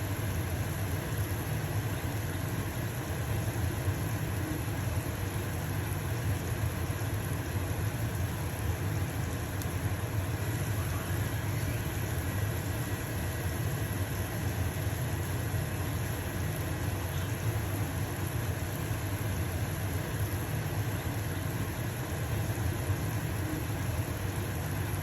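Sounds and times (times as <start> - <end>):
range hood fan humming: 0.0 - 25.0.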